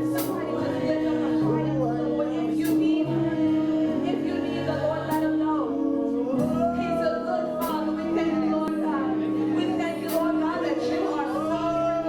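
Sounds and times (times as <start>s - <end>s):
gospel worship music: 0.0s - 12.0s.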